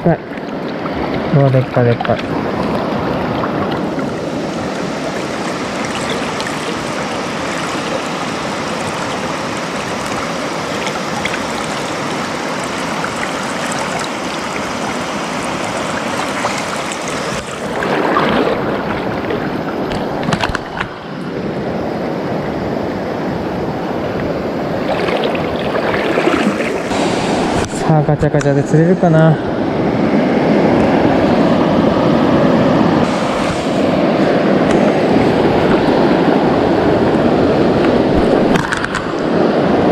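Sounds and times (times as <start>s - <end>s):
river current rushing: 0.0s - 39.9s.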